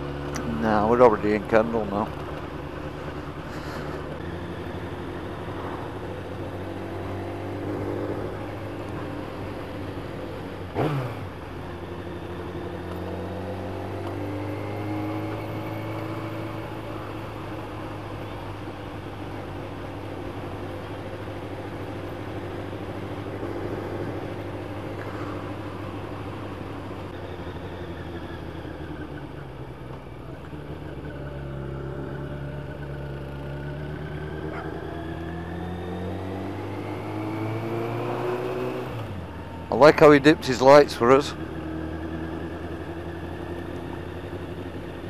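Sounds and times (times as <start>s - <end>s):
motorcycle engine running: 0.0s - 45.0s
wind and road noise: 0.0s - 45.0s.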